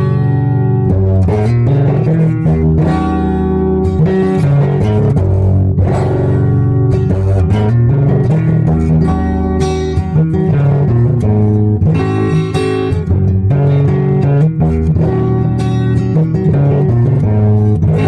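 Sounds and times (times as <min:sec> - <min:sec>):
guitar playing: 0:00.0 - 0:18.0.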